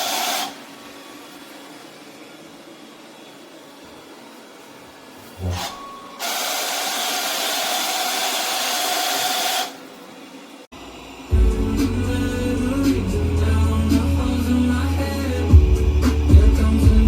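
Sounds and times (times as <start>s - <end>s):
vacuum motor running: 0.0s - 17.0s.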